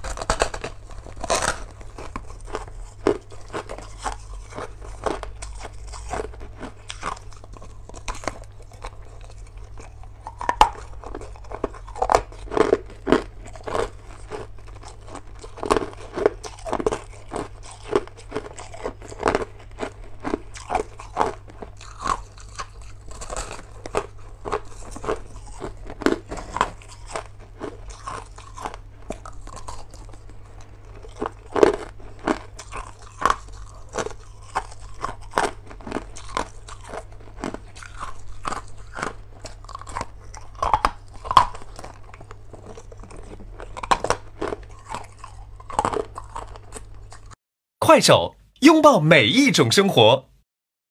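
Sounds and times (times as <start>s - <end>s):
crushed ice being chewed: 0.0s - 47.4s.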